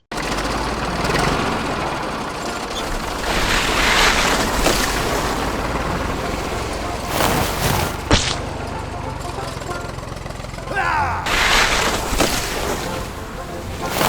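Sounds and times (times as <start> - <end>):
engine-like running noise: 0.0 - 14.0.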